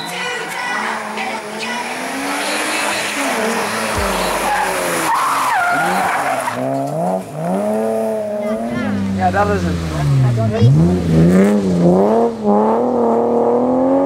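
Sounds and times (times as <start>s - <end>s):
rally car engine revving: 0.4s - 14.0s.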